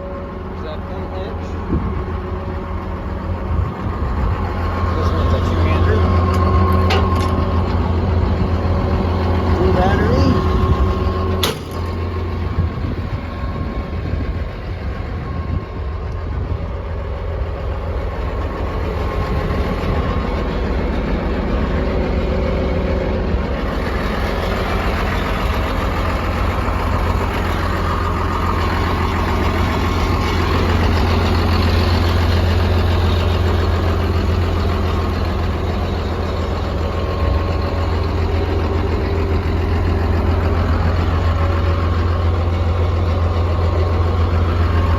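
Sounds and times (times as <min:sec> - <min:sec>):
bulldozer diesel engine idling: 0:00.0 - 0:44.9.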